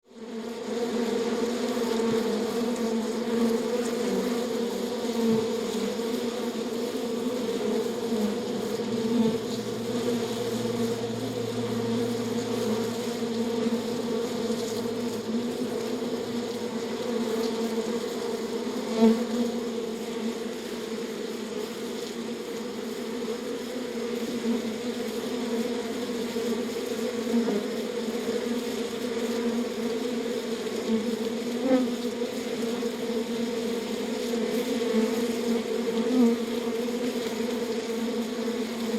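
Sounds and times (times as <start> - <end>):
bees buzzing: 0.2 - 38.9.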